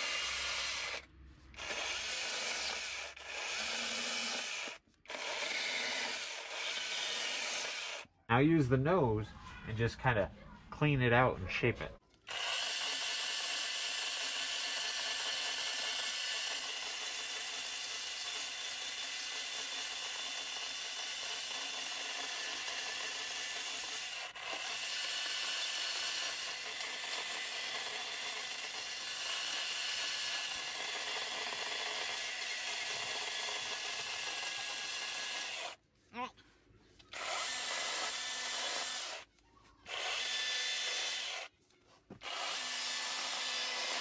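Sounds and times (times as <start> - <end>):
chainsaw cutting wood: 0.0 - 8.1, 12.3 - 35.8, 37.1 - 39.3, 39.9 - 41.5, 42.1 - 44.0.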